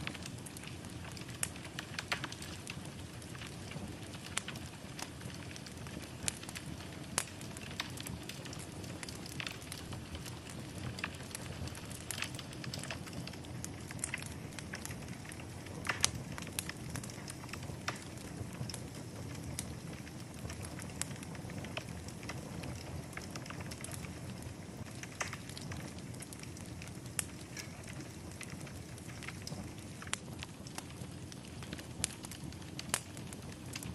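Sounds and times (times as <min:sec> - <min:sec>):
fire crackling and popping: 0:00.0 - 0:33.9
fire rumbling in a fireplace: 0:00.0 - 0:33.9.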